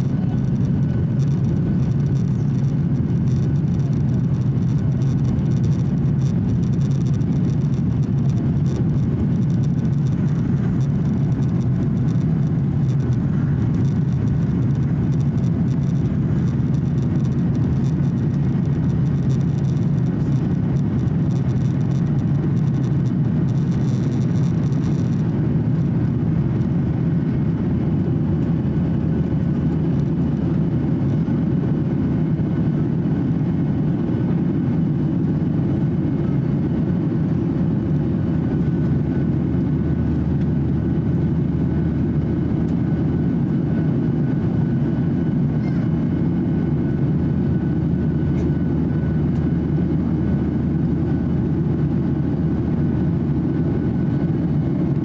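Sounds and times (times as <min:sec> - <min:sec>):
jet engines rumbling: 0:00.0 - 0:55.0.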